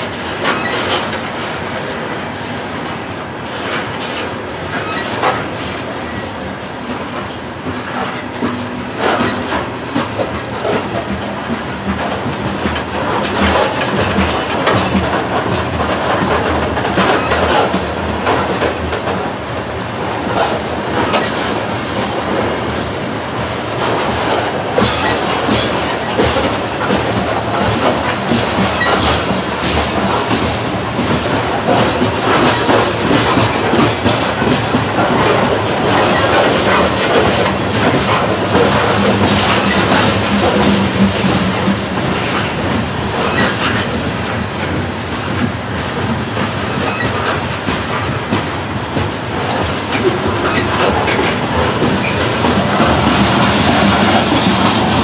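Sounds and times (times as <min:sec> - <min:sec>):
freight train wheels rumbling: 0:00.0 - 0:55.0
train wheels clacking: 0:00.0 - 0:55.0.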